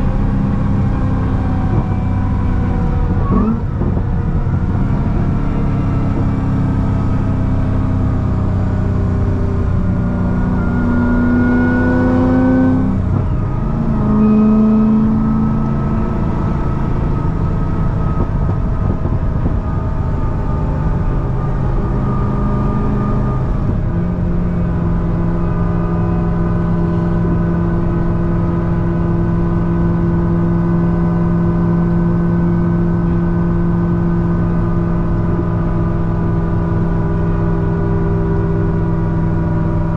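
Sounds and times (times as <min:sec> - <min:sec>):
supercharged car engine accelerating: 0:00.0 - 0:39.9.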